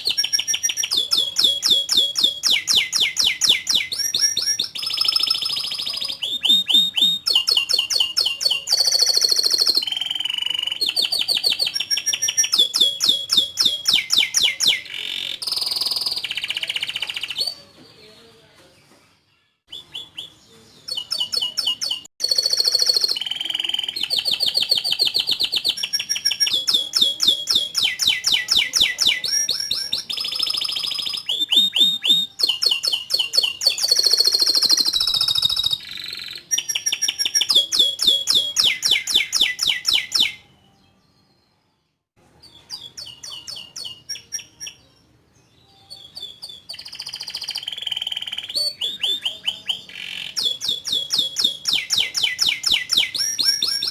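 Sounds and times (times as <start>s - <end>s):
canary singing: 0.0s - 18.5s, 19.1s - 41.6s, 42.2s - 53.9s.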